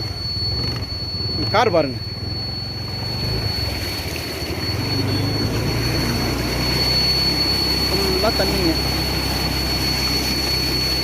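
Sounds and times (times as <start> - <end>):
thin high whine: 0.0 - 11.0
vehicle engine humming: 0.0 - 11.0.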